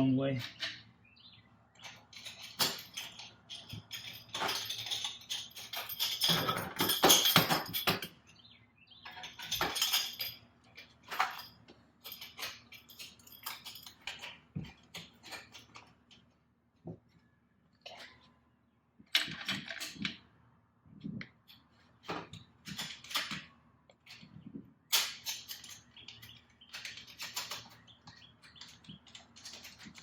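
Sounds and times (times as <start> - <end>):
metal tools and parts clinking: 0.2 - 0.9, 1.8 - 16.3, 19.1 - 20.3, 21.0 - 30.0.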